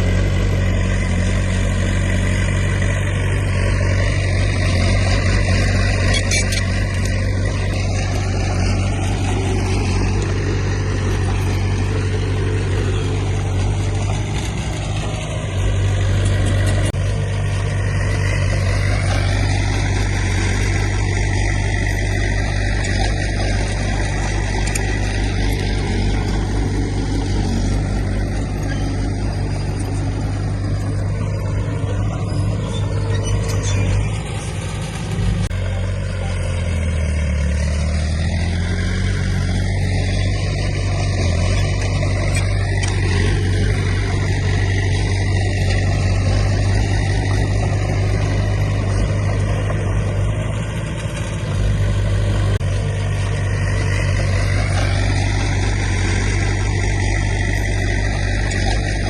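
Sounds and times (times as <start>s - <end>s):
diesel engine low drone: 0.0s - 59.0s.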